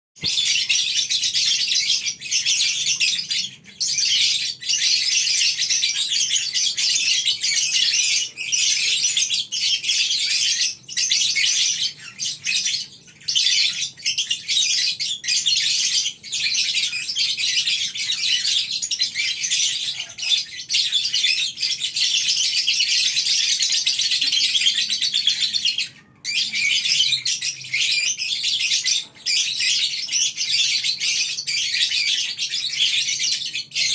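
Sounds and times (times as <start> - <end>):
lovebirds chattering: 0.2 - 33.9.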